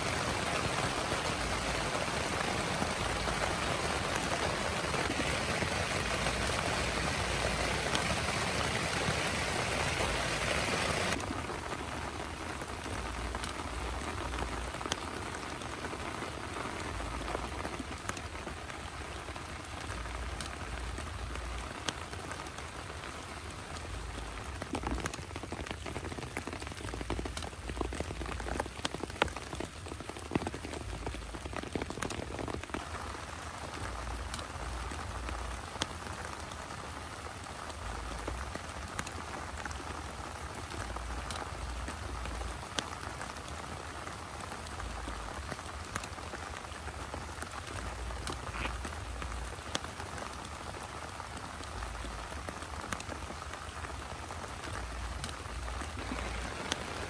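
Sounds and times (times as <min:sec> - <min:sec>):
rain on grass and tent: 0:00.0 - 0:57.0.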